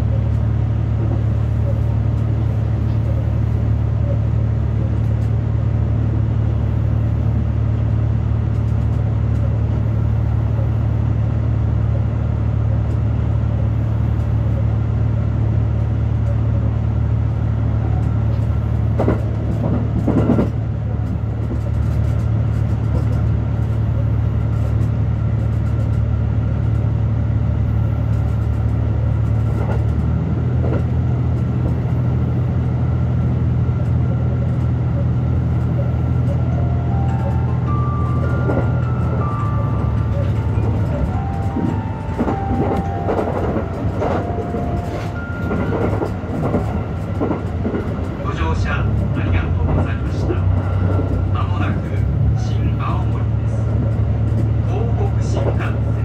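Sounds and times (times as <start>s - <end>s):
railcar running low hum: 0.0s - 56.0s.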